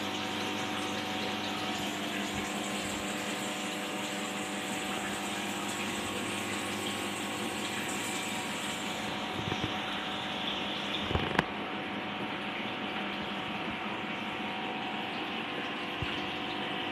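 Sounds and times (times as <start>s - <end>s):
filter pump electrical hum: 0.0s - 16.9s
water splashing and trickling: 0.0s - 16.9s.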